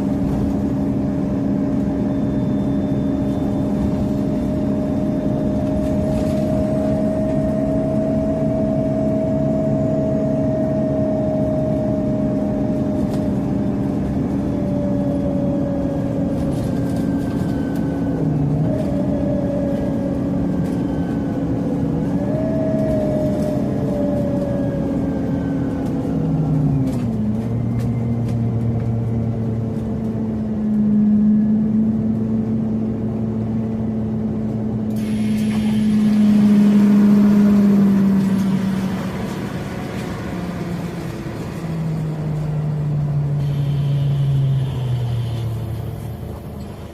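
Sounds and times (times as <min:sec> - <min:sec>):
bus drivetrain whine: 0:00.0 - 0:46.9
bus engine hum: 0:00.0 - 0:46.9.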